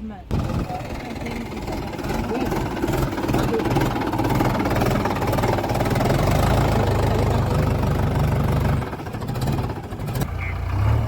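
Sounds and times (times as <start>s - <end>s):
diesel engine running: 0.2s - 11.0s.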